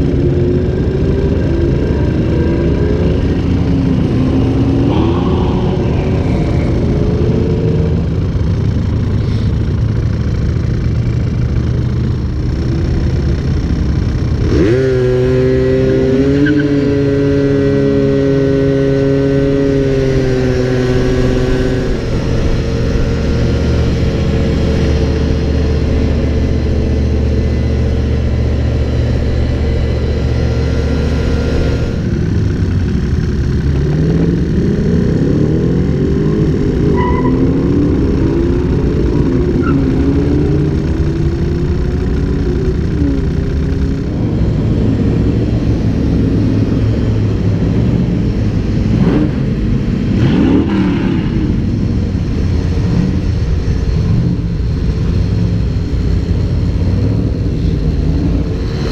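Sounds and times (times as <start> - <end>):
engine revving: 0.0 - 58.9
vehicle engines running: 0.0 - 58.9.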